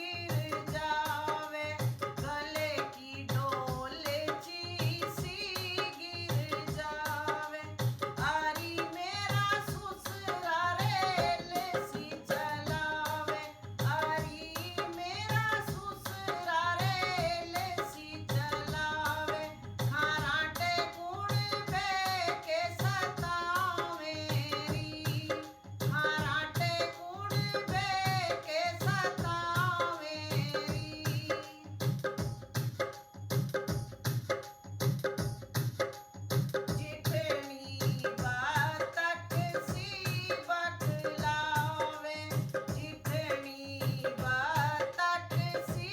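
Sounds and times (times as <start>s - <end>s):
woman singing: 0.0s - 32.3s, 36.6s - 45.9s
hand drums beat: 0.0s - 45.9s.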